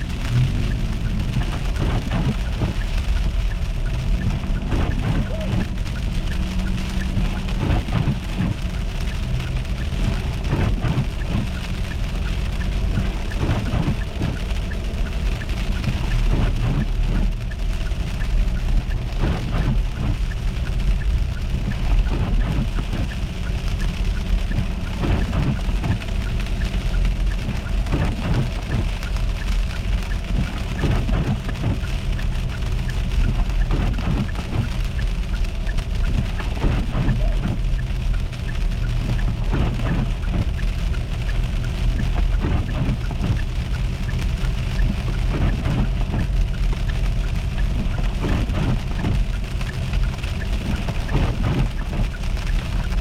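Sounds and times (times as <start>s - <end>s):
car road rumble: 0.0s - 53.0s.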